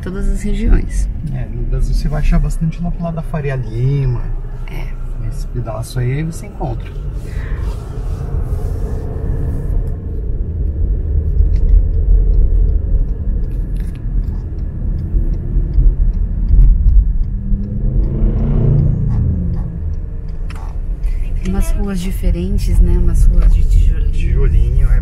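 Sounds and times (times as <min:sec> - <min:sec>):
city street traffic rumble: 0:00.0 - 0:25.0
vehicle passing: 0:00.0 - 0:25.0.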